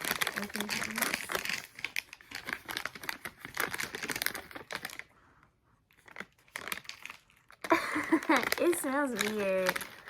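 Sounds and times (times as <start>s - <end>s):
food packaging crinkling and tearing: 0.0s - 5.2s, 5.9s - 10.0s.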